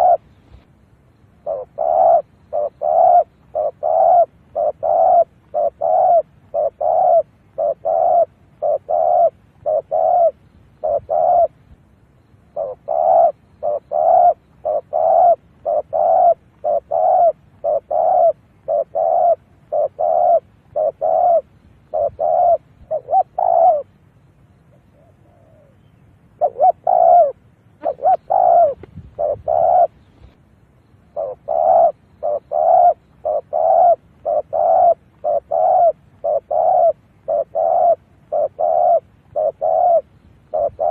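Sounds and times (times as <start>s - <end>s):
dove cooing: 0.0s - 0.6s, 1.4s - 11.8s, 12.4s - 24.0s, 24.7s - 30.4s, 31.0s - 40.9s.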